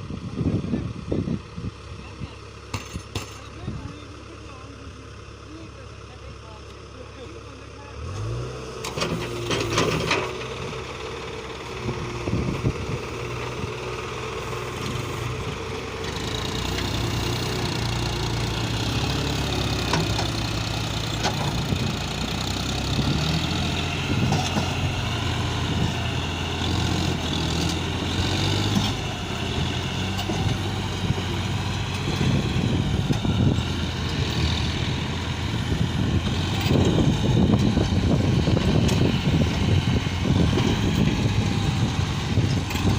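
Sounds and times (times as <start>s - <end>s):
diesel machinery running: 0.0s - 42.9s.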